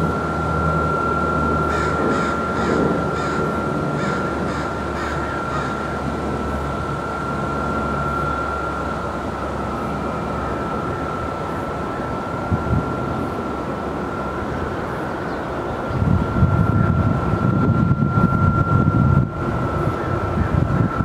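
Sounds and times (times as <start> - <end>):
bridge machinery hum: 0.0 - 21.0
high whine: 0.0 - 21.0
rapid repeating signal: 0.0 - 21.0.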